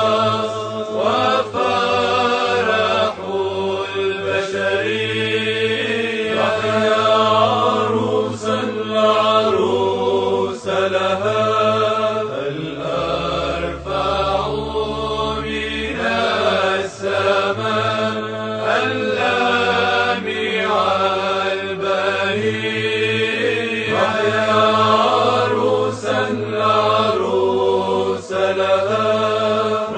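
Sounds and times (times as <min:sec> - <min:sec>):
steady low drone: 0:00.0 - 0:29.9
voices chanting long notes: 0:00.0 - 0:29.9.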